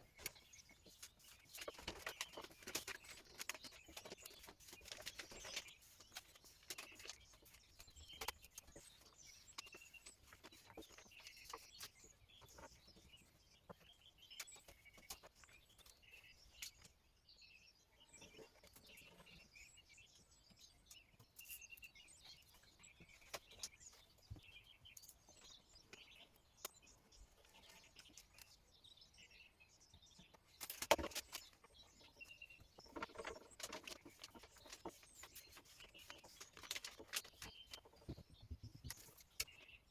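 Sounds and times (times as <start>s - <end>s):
small clicks and rustles: 0.0s - 17.1s, 18.0s - 39.9s
faint birds chirping: 0.0s - 39.9s.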